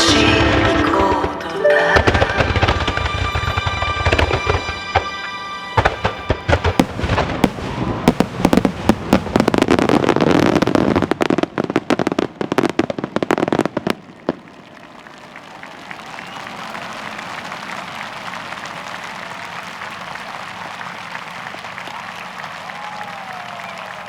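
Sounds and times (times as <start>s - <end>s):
fireworks crackling and bursting: 0.0s - 24.0s.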